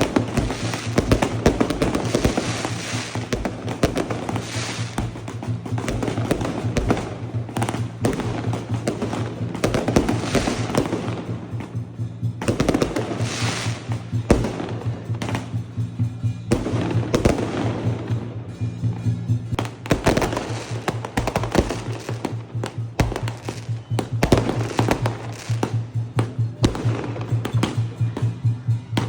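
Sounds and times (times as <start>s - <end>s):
fireworks bangs: 0.0s - 15.7s, 16.5s - 29.0s
fireworks crackling: 0.0s - 29.0s
music playing: 0.0s - 29.0s.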